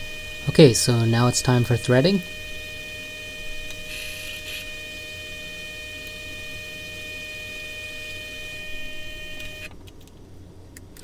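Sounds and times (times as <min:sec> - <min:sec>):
lathe motor humming with whine: 0:00.0 - 0:09.7.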